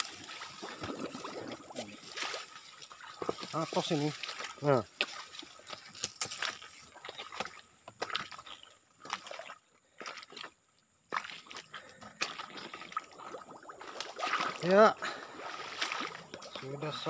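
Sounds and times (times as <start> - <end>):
footsteps squelching through mud: 0.0 - 17.0.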